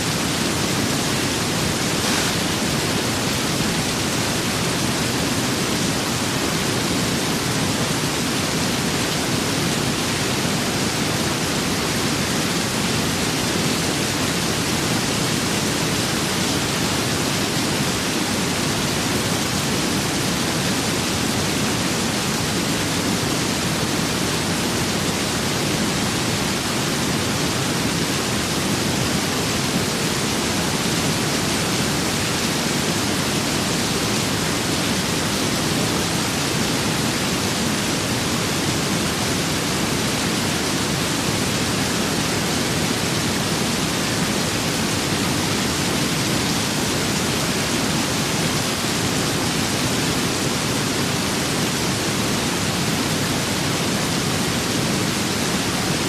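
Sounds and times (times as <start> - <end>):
steady rain with wind: 0.0 - 56.0.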